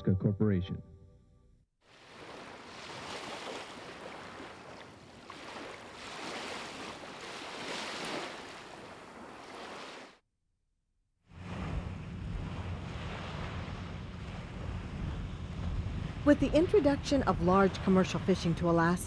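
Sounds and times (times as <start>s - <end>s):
waves washing on open water: 1.8s - 10.2s, 11.3s - 19.0s.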